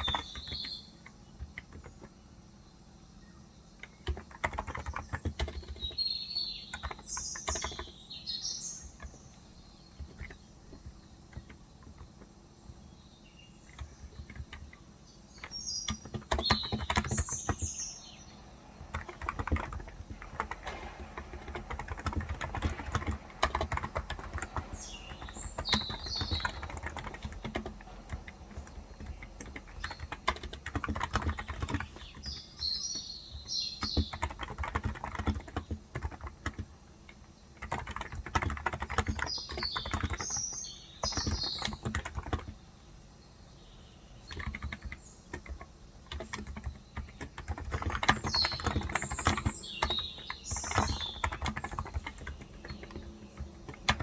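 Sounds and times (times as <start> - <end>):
keyboard typing: 0.0 - 2.3, 3.8 - 13.0, 13.6 - 42.7, 44.2 - 54.0
birds chirping: 0.0 - 54.0.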